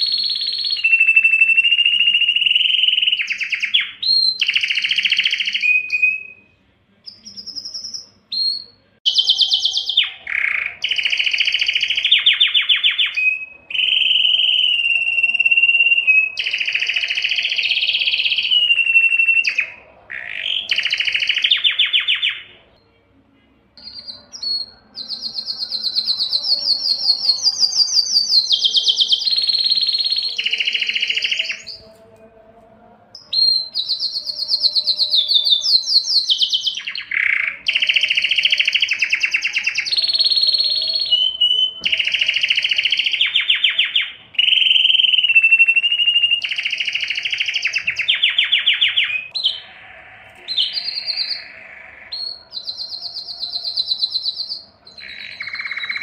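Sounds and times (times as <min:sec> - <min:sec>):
canary singing trills: 0:00.0 - 0:32.4, 0:33.1 - 0:56.0.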